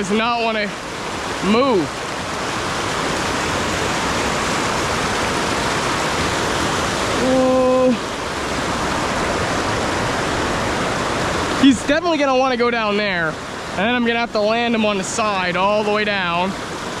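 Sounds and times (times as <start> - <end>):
river water rushing over falls: 0.0 - 17.0.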